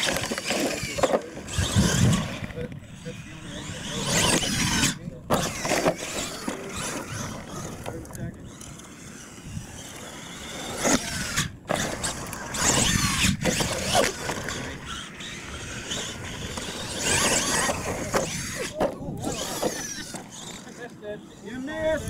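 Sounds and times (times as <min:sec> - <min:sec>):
toy truck motor whining: 0:00.0 - 0:22.0.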